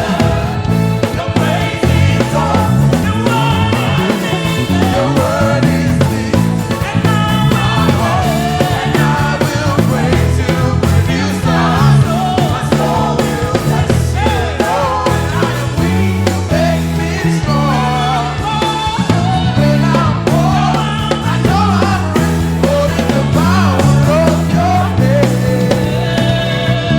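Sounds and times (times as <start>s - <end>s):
bass line: 0.0s - 26.9s
gospel singing over a band: 0.0s - 26.9s.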